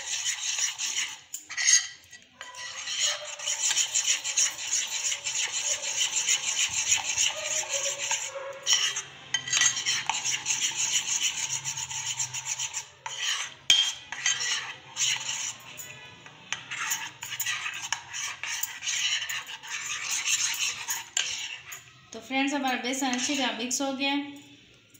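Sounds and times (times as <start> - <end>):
metal spoon beating batter in bowl: 0.0 - 23.8.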